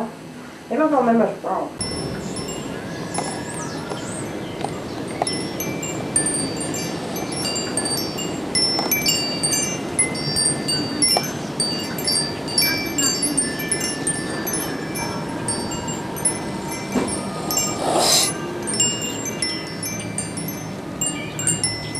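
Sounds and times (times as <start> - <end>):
rush of wind: 1.7 - 21.9
metal wind chimes ringing: 1.8 - 21.9.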